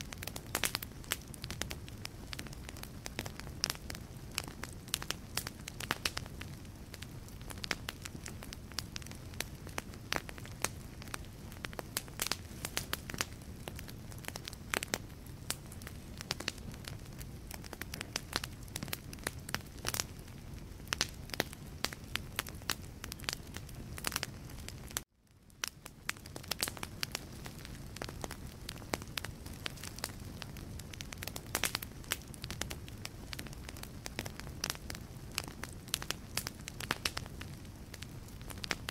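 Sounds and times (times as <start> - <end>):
burning logs popping: 0.0 - 38.9
low rumble of flames: 0.0 - 38.9
wood fire crackling: 0.0 - 38.9.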